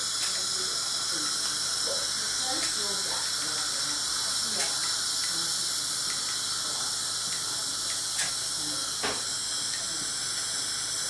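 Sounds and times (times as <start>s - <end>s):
dental suction hissing: 0.0s - 11.0s.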